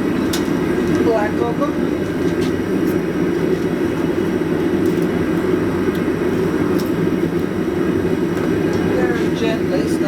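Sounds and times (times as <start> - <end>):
gas burner rushing: 0.0 - 10.0.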